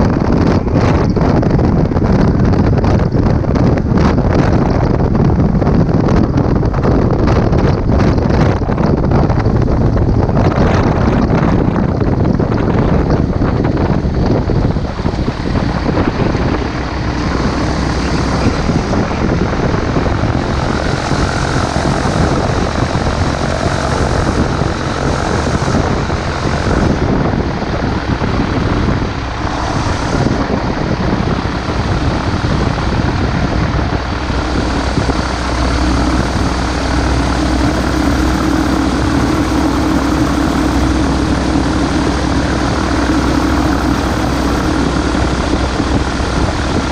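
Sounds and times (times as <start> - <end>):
propeller engine droning: 0.0 - 46.9.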